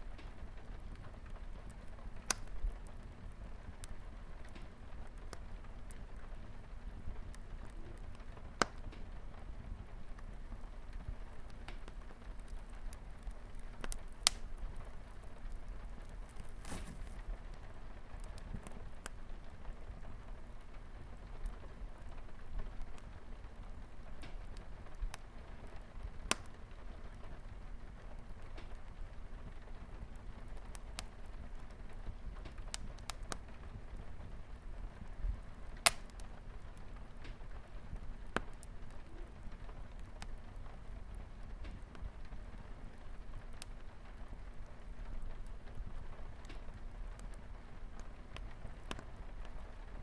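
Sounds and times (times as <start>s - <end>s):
light rain on a window: 0.0s - 50.0s
wood fire crackling and popping: 0.0s - 50.0s.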